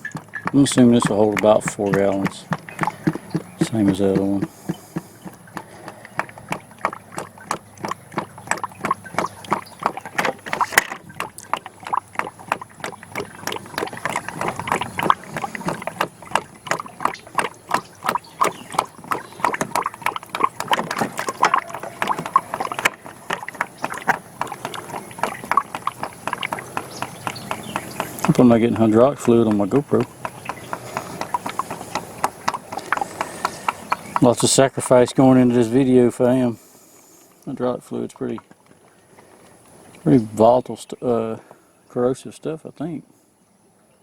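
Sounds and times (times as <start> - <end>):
oil glugging into a funnel: 0.0 - 36.4.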